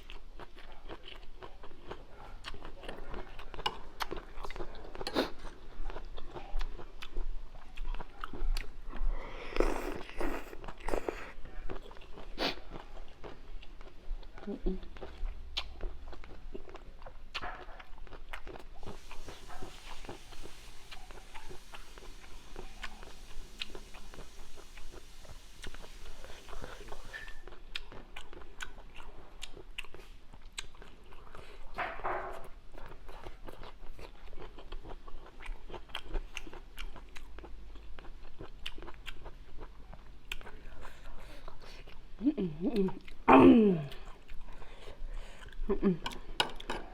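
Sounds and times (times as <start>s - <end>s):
person chewing and crunching food: 0.0s - 46.9s.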